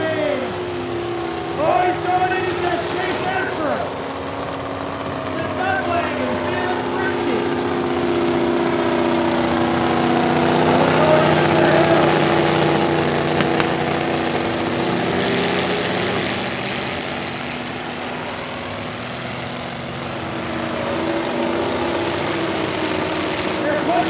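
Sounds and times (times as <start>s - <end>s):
engine revving: 0.0s - 24.0s
race car engines running: 0.0s - 24.0s.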